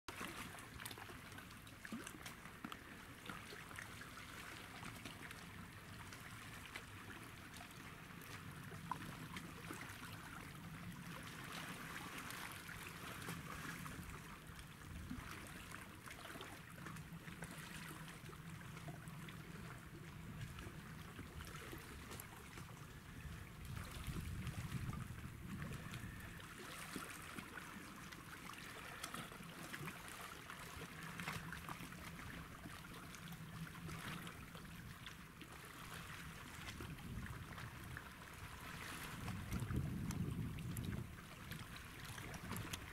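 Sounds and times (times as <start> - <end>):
small waves lapping on rocks: 0.1 - 42.9.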